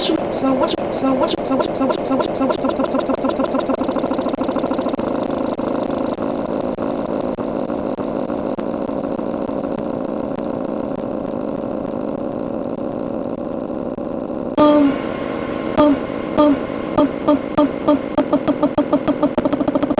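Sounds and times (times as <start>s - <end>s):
distorted buzzing drone: 0.0s - 19.9s.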